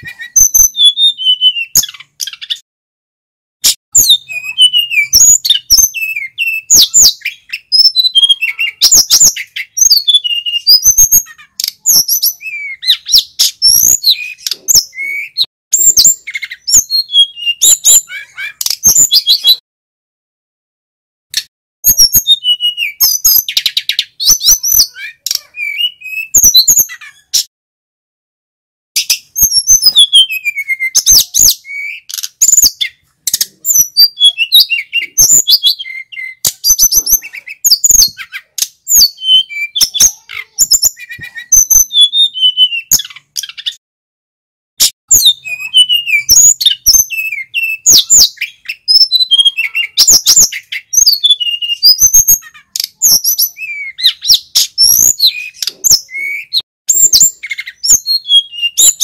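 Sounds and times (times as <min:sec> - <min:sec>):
bird singing whistles and chirps: 0:00.0 - 0:02.6, 0:03.7 - 0:19.6, 0:21.8 - 0:27.5, 0:29.0 - 0:43.8, 0:44.8 - 0:59.0.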